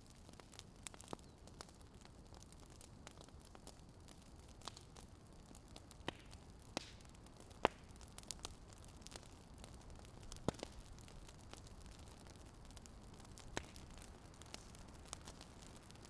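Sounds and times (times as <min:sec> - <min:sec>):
soft steady hiss: 0:00.0 - 0:16.0
wood fire crackling: 0:00.0 - 0:16.0.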